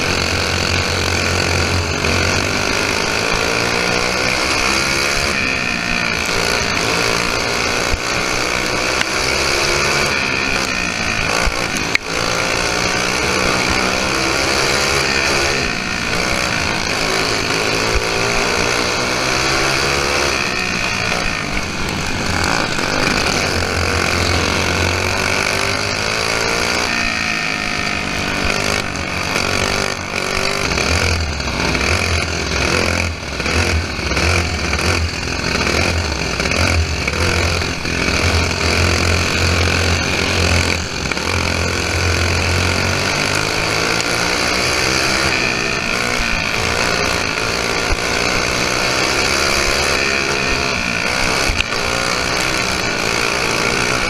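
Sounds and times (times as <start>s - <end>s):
kart engine racing: 0.0s - 54.0s.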